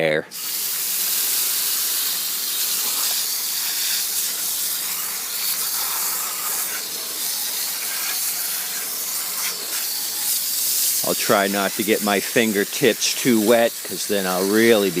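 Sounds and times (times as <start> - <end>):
hose spray hissing: 0.3 - 15.0.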